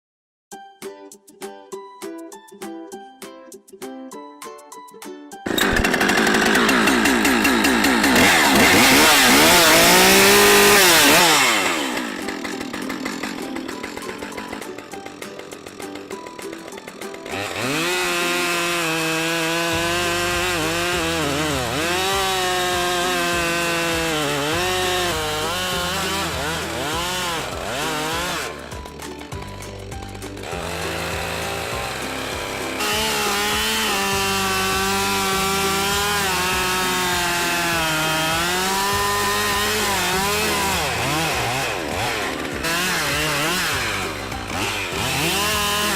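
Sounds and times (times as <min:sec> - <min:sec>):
music: 0:00.5 - 0:45.9
chainsaw revving: 0:05.4 - 0:45.9.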